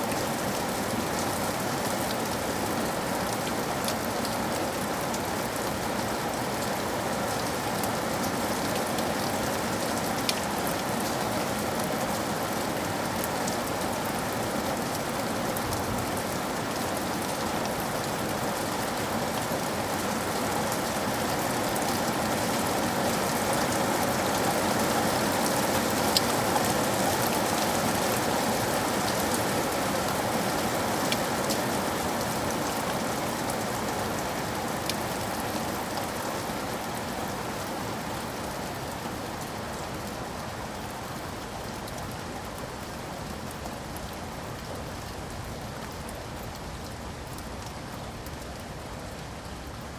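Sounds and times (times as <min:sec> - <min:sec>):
heavy rain on a window pane: 0:00.0 - 0:49.9.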